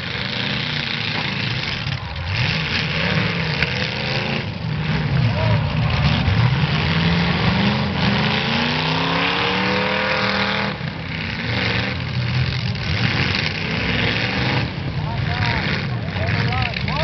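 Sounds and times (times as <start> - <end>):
car engine revving: 0.0 - 17.0
car engines running loud: 0.0 - 17.0.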